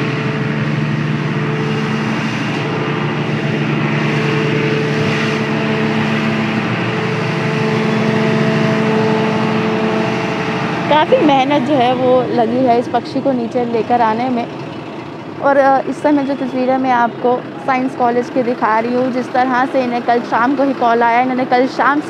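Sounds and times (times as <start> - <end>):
fire truck diesel engine running: 0.0 - 22.0.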